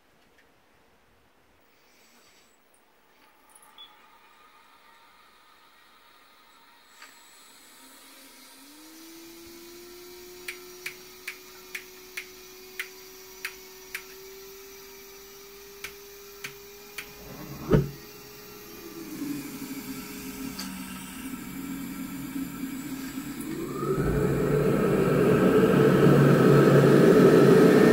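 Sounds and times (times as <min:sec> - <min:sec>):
turbine motor whine: 0:05.2 - 0:27.9.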